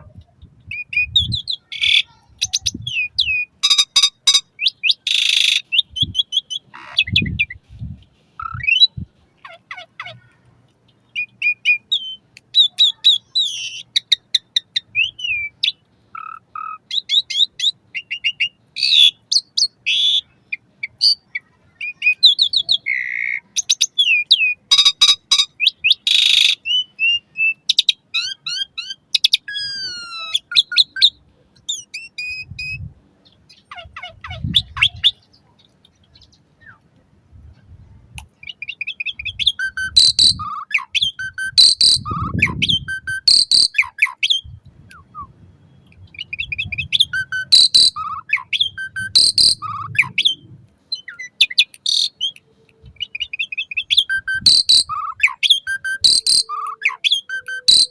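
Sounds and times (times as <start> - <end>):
starling singing: 0.0 - 7.6, 10.9 - 36.8, 38.4 - 57.9.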